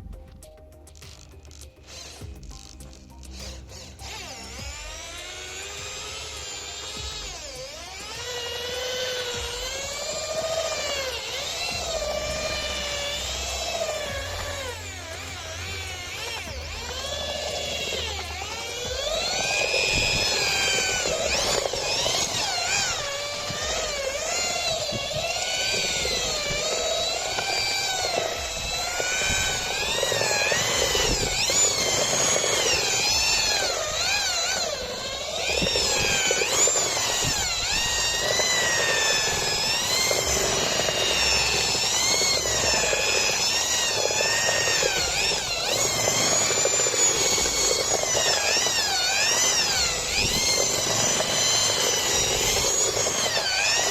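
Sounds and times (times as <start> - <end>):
impact drill motor whine: 0.0 - 53.9.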